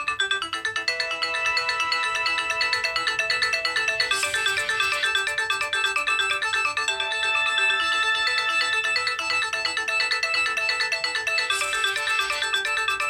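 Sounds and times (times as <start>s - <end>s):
mobile phone ringtone: 0.0s - 13.0s.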